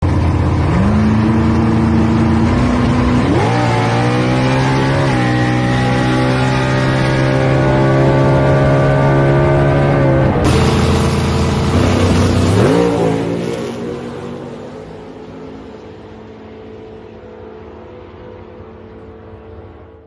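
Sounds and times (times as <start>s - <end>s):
race car engine revving: 0.5s - 17.4s.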